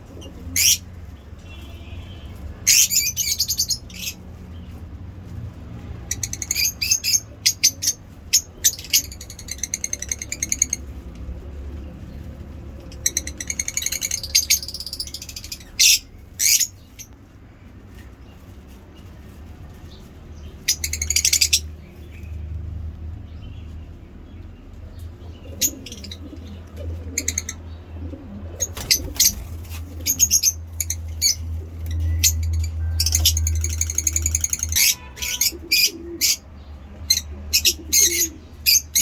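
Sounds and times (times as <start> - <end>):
lovebirds chirping: 0.0 - 4.8, 6.0 - 10.9, 11.9 - 22.6, 23.2 - 39.0.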